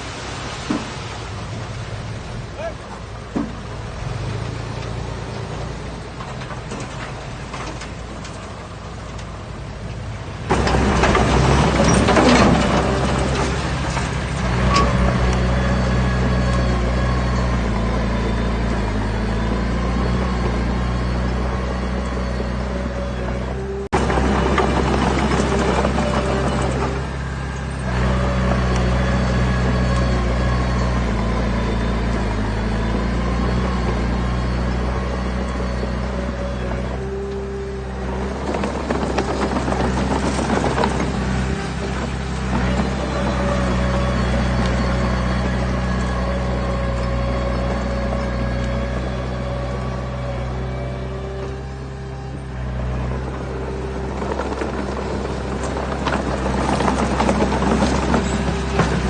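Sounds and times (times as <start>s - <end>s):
diesel engine running: 0.0s - 59.0s
rumbling and clattering: 0.0s - 59.0s.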